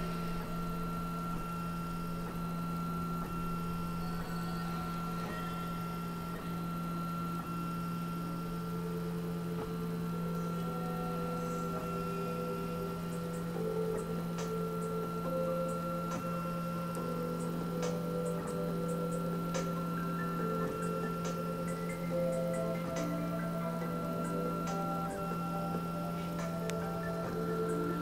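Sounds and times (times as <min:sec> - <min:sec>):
constant hum: 0:00.0 - 0:28.0
stepper motors whining: 0:00.0 - 0:28.0.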